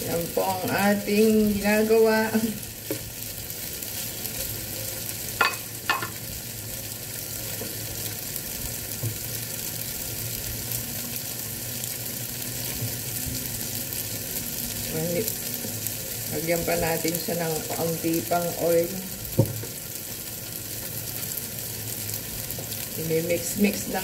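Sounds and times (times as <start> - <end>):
tofu sizzling in hot oil: 0.0 - 24.0.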